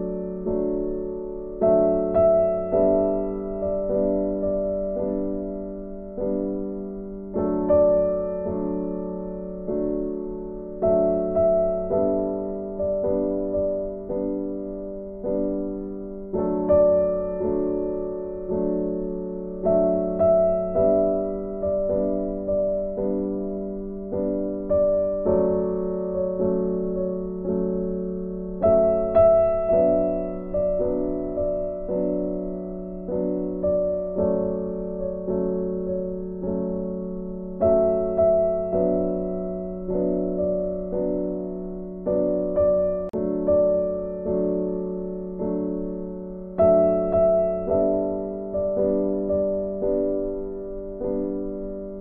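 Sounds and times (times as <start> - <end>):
soft keyboard chords: 0.0 - 52.0.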